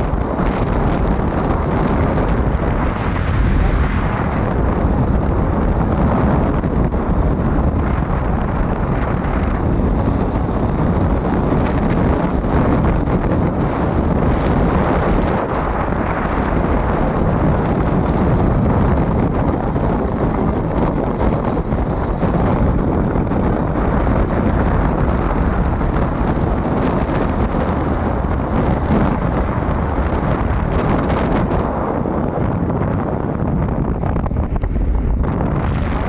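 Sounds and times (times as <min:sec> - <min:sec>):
wind rush buffeting microphone: 0:00.0 - 0:36.0.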